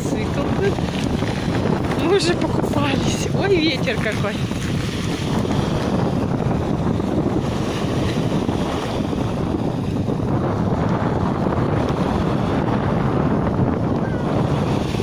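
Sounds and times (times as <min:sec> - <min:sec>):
small waves breaking on shore: 0:00.0 - 0:15.0
wind buffeting microphone: 0:00.0 - 0:15.0.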